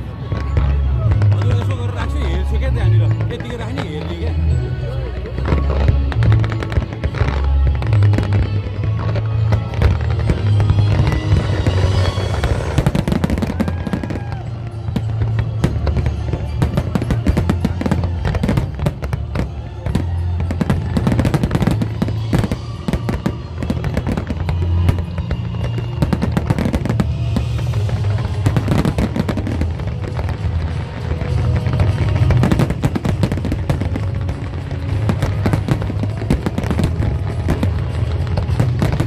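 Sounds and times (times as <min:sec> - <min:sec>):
fireworks bangs and crackles: 0:00.0 - 0:39.0
music: 0:00.0 - 0:39.0.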